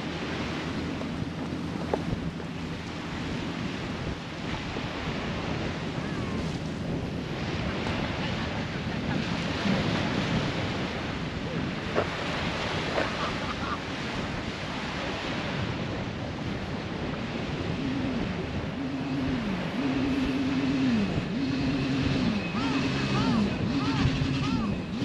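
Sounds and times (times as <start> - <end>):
low wavering hum: 0.0 - 25.0
small waves washing onto sand: 0.0 - 25.0
wind buffeting microphone: 0.0 - 25.0.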